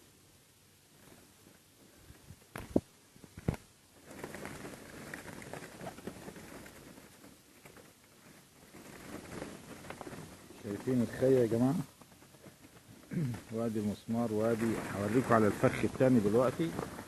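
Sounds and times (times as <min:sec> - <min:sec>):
faint rustling: 0:00.0 - 0:17.0.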